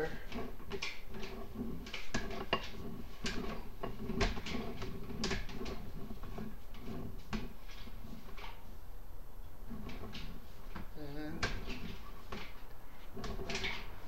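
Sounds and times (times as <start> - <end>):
cable clicking and knocking: 0.0 - 8.6, 9.6 - 14.0.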